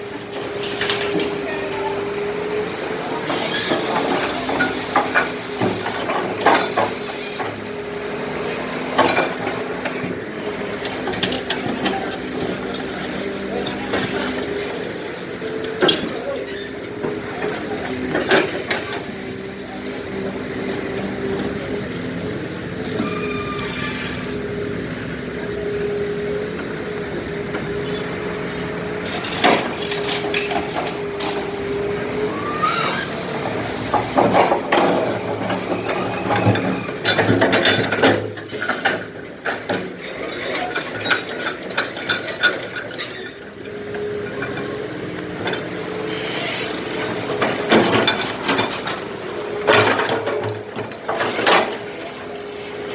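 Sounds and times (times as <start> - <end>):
excavator engine running: 0.0 - 52.9
clanking and scraping rubble: 0.1 - 52.9.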